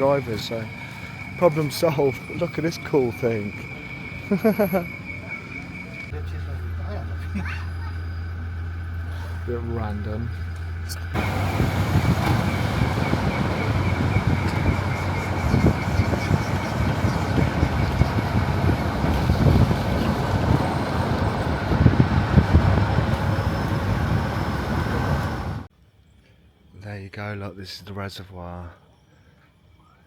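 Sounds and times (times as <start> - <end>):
vehicle engine and road noise: 0.0 - 25.7.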